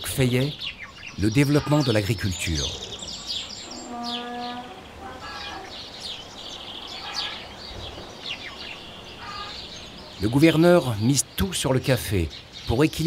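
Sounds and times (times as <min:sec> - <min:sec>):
birds chirping: 0:00.0 - 0:13.0
low steady bird call: 0:00.0 - 0:13.0.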